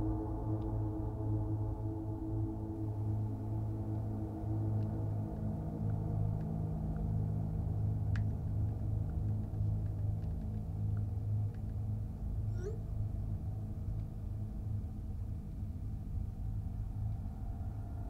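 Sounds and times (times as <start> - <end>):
low droning hum: 0.0 - 18.0.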